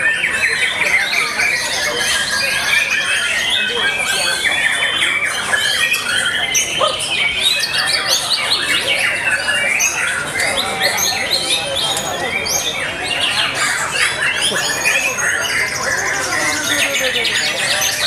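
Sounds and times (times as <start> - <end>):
other birds singing: 0.0 - 18.0.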